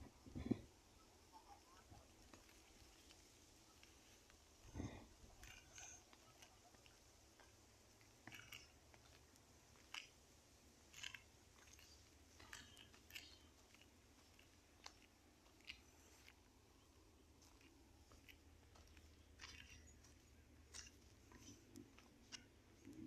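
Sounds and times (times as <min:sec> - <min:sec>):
faint irregular clicks and ticks: 0:00.0 - 0:23.0.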